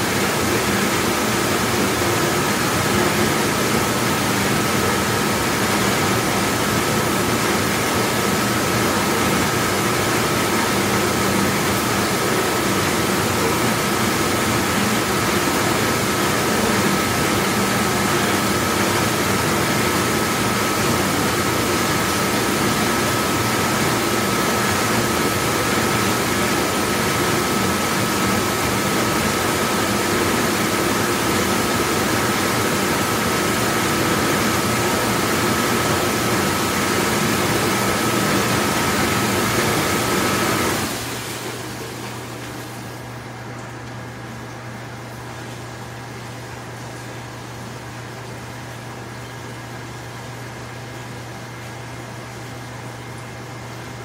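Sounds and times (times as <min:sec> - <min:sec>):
dishwashing machine running: 0:00.0 - 0:54.0.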